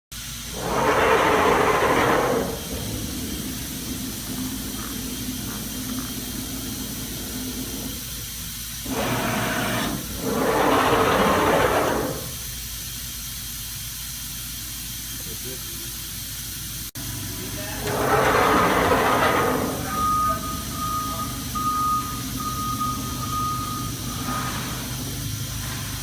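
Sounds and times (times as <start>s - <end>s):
machine hum: 0.2s - 12.9s, 17.0s - 26.0s
loud hissing bursts: 0.2s - 26.0s.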